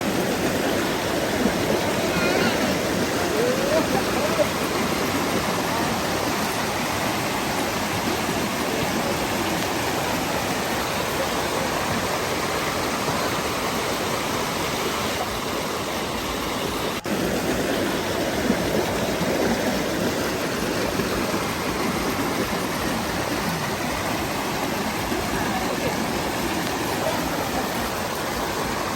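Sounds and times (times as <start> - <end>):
waterfall and stream rushing: 0.0 - 28.9.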